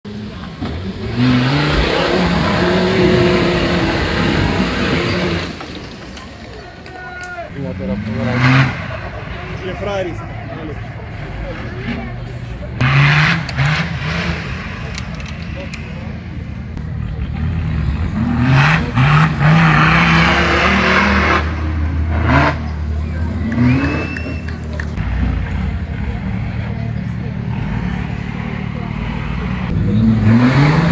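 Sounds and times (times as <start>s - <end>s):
off-road vehicle engine revving: 0.1s - 6.2s, 7.5s - 10.0s, 10.8s - 30.9s.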